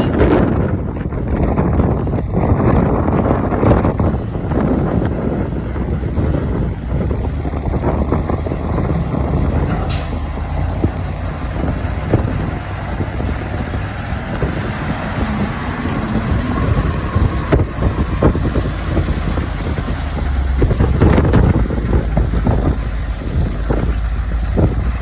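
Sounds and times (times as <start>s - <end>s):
excavator engine under load: 0.0s - 25.0s.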